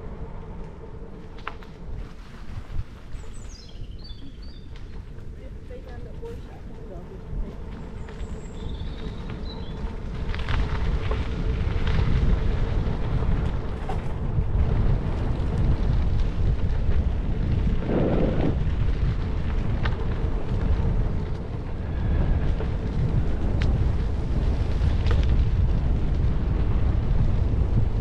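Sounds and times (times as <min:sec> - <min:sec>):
bicycle tyres rolling on gravel: 0:00.0 - 0:28.0
wind buffeting microphone: 0:00.0 - 0:28.0.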